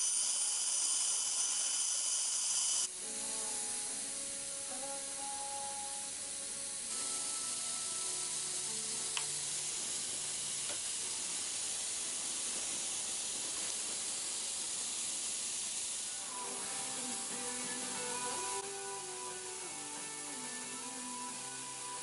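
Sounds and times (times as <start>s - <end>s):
steady hissing noise: 0.0s - 22.0s.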